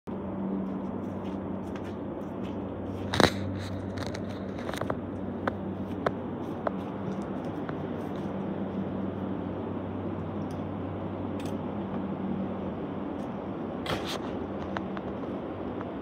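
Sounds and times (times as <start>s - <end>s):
fan humming: 0.1s - 16.0s.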